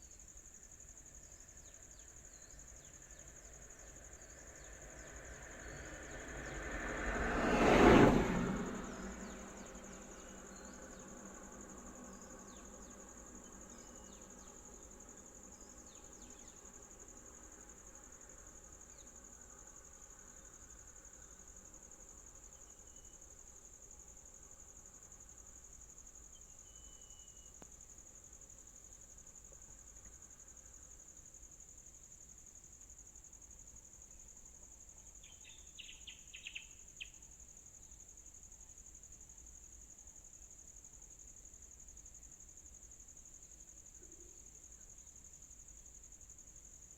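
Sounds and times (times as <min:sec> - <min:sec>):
insect drone: 0:00.0 - 0:46.9.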